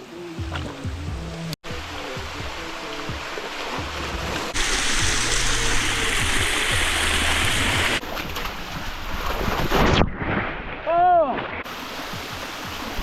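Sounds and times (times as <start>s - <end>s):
rushing creek water: 0.0s - 9.8s, 11.6s - 13.0s.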